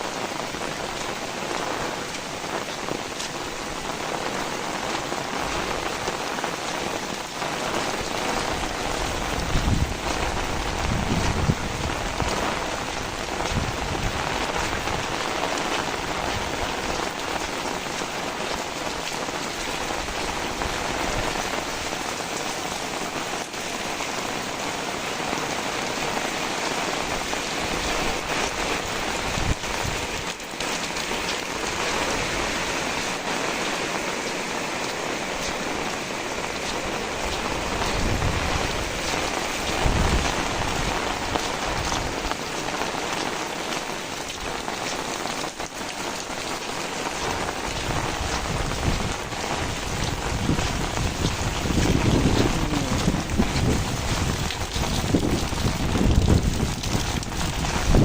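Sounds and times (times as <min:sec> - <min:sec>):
low gusts of wind: 0:00.0 - 0:25.0, 0:25.8 - 0:43.0, 0:46.9 - 0:58.0
heavy rain falling: 0:00.0 - 0:58.0.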